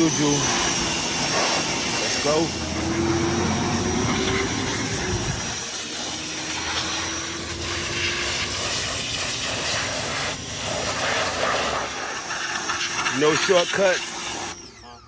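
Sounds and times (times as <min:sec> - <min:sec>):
dirt bike engine running: 0:00.0 - 0:13.4.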